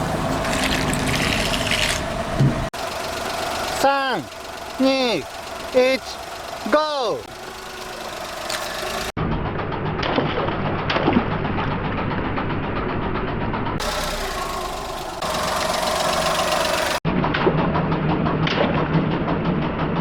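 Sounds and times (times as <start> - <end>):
car engine running at low speed: 0.0 - 20.0.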